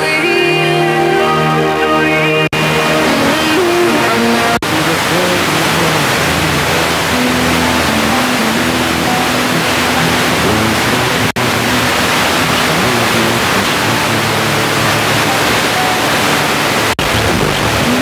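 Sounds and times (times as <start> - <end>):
radio static hiss: 2.6 - 18.0.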